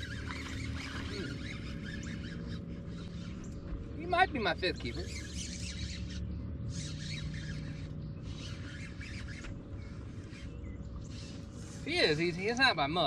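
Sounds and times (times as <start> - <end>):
fishing reel whirring: 0.0 - 13.0.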